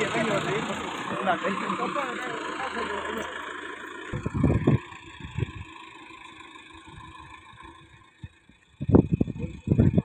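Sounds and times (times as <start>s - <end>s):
low rumbling bursts: 0.0s - 10.0s
tractor engine running: 0.0s - 10.0s.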